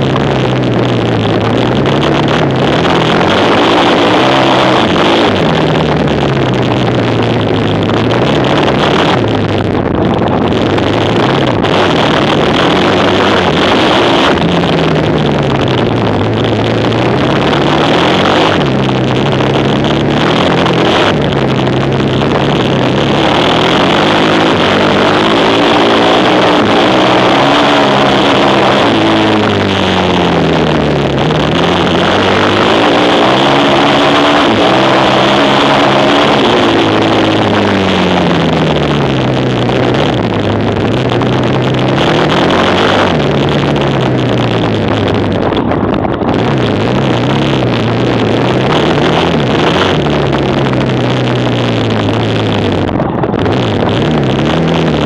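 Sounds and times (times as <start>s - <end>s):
quad bike engines revving: 0.0s - 55.0s.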